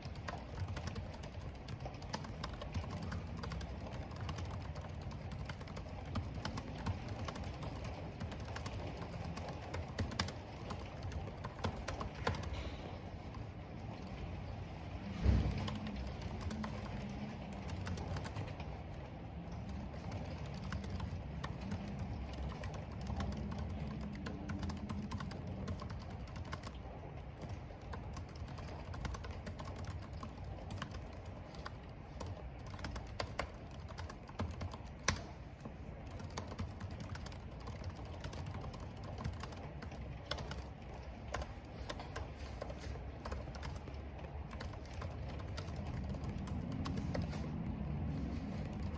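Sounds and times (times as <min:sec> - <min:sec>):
keyboard typing: 0:00.0 - 0:14.4, 0:15.1 - 0:48.9
wind and rain rumble: 0:00.0 - 0:48.9.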